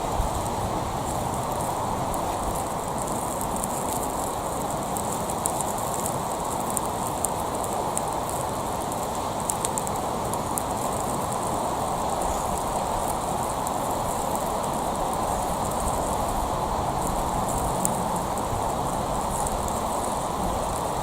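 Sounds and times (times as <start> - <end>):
gas torch flame blowing: 0.0 - 21.0
small crackles and pops: 0.0 - 21.0.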